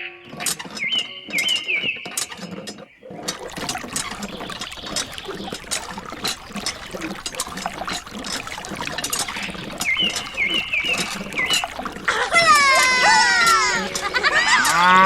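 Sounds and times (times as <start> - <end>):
water trickling and dripping: 0.3 - 15.0.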